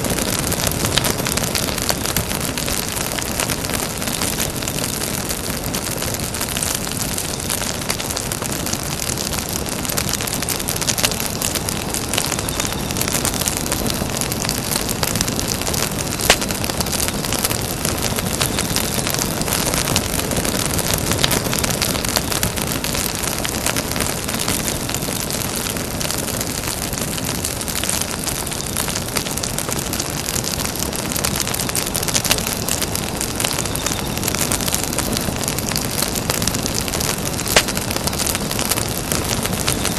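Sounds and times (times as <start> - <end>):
campfire flames hissing: 0.0 - 39.9
fire crackles and pops: 0.0 - 39.9.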